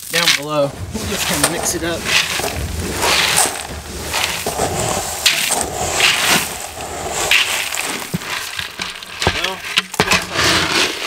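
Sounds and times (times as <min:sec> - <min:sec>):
grain rustling in feed bag: 0:00.0 - 0:11.0.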